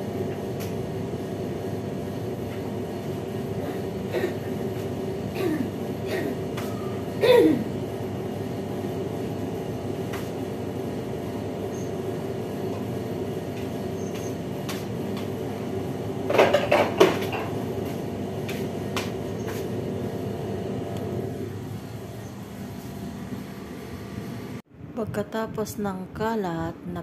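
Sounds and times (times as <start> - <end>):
machine hum: 0.0 - 25.6.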